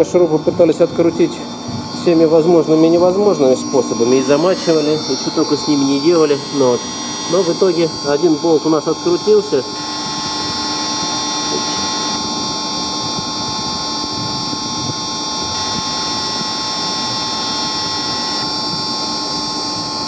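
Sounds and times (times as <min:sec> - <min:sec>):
constant high tones: 0:00.0 - 0:20.0
machinery humming and whining: 0:00.0 - 0:20.0.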